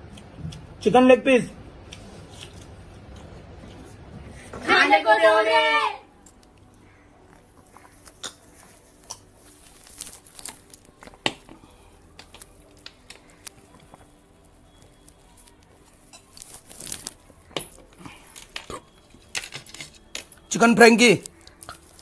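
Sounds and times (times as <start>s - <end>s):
faint music: 0.0s - 22.0s.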